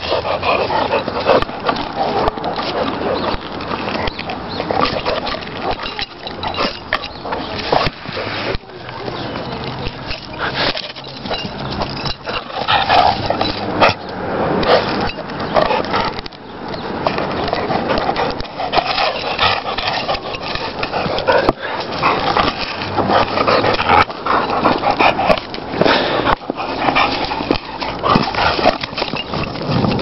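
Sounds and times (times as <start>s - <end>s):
dog chewing stick: 0.0s - 30.0s
dog play noises: 0.0s - 30.0s.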